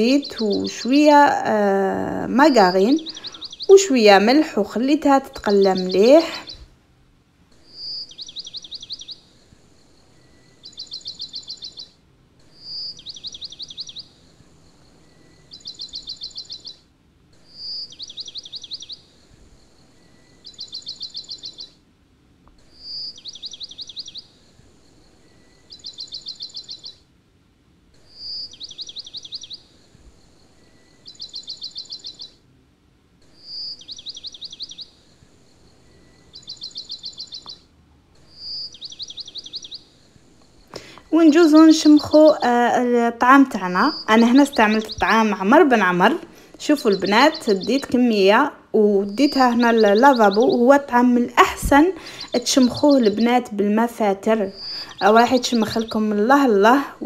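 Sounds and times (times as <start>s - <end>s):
songbird trilling: 0.0s - 6.7s, 7.5s - 21.8s, 22.6s - 27.0s, 28.0s - 32.4s, 33.2s - 57.0s.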